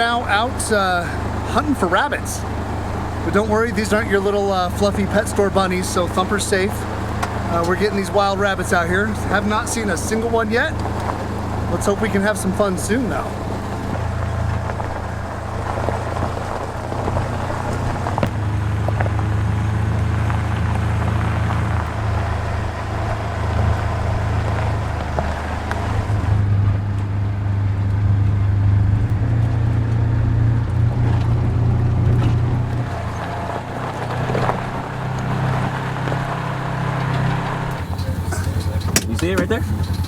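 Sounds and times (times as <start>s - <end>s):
vehicle engine humming: 0.0s - 40.0s.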